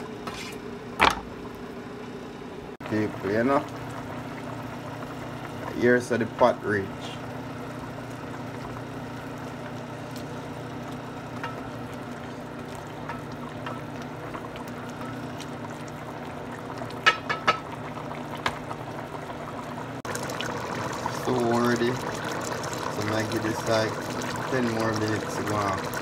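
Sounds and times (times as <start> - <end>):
pot boiling and bubbling: 0.0 - 26.0.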